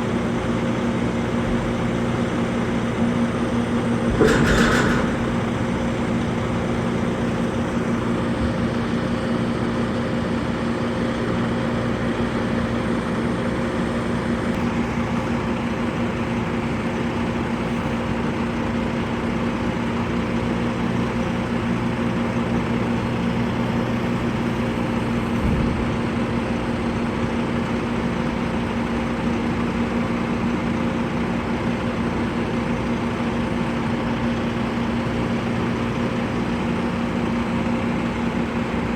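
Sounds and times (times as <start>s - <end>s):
vehicle engine humming steadily: 0.0s - 38.9s.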